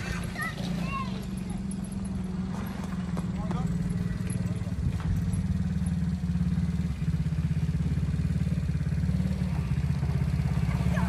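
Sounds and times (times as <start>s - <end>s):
small atv engine running: 0.0s - 11.0s.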